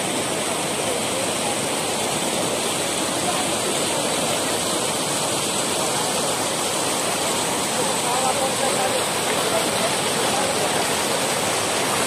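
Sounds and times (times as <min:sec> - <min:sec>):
floodwater rushing over a road: 0:00.0 - 0:12.0.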